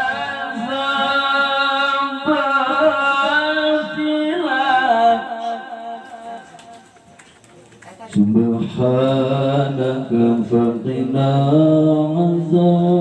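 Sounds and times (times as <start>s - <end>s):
man reciting melodically: 0.0s - 6.6s, 8.2s - 13.0s.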